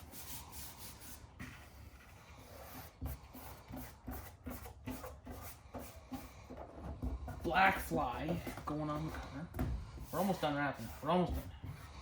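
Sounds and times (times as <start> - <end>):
rubbing and handling sounds: 0.0 - 12.0.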